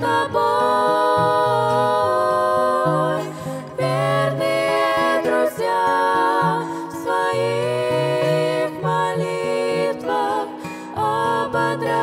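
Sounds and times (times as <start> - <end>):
women singing a hymn in harmony: 0.0 - 12.0.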